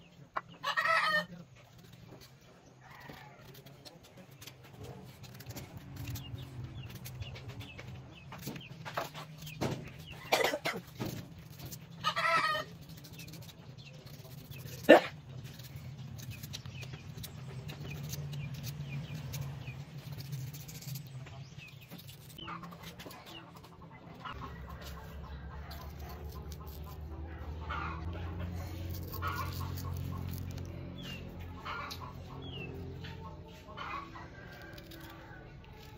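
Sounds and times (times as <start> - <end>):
chickens clucking: 0.0 - 20.3, 20.9 - 35.9.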